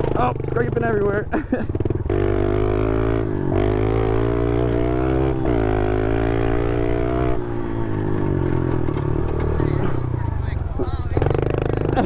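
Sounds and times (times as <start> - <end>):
motorbike engine revving hard: 0.0 - 12.0.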